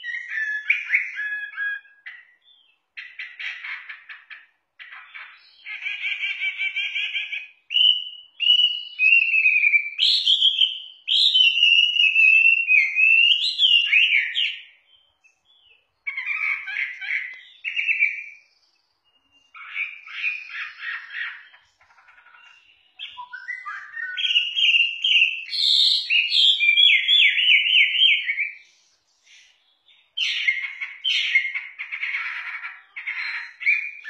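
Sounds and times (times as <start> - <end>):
bird singing whistled phrases: 0.0 - 4.1, 5.0 - 21.7, 22.4 - 34.0.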